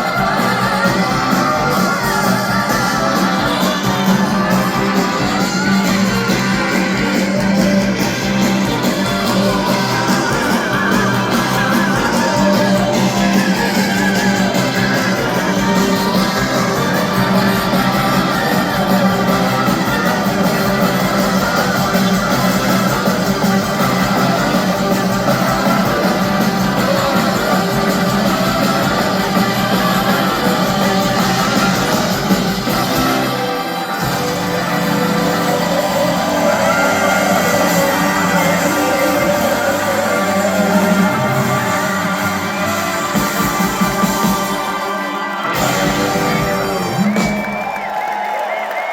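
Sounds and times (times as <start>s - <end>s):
bass line: 0.0s - 44.7s
live rock band: 0.0s - 48.9s.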